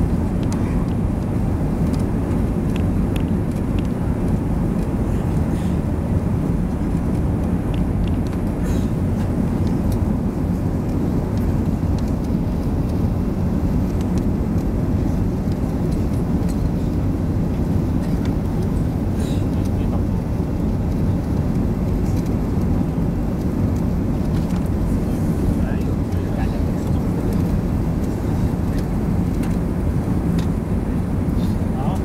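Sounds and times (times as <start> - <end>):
airplane cabin rumble: 0.0 - 32.0.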